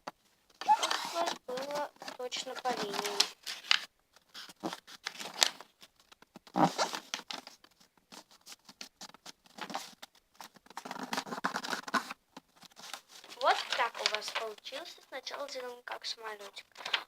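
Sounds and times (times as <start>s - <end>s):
paper rustling and crackling: 0.4s - 17.0s
paper crease rubbing: 0.6s - 17.0s.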